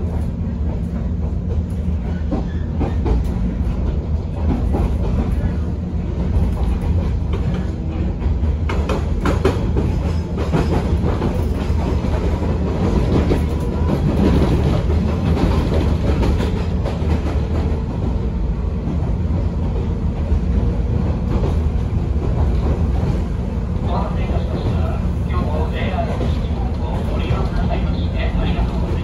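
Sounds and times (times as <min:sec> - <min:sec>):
train motors rumbling: 0:00.0 - 0:29.0.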